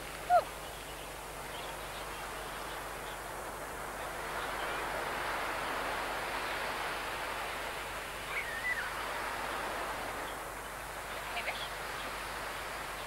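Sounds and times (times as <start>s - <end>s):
surf on a beach: 0.0s - 13.0s.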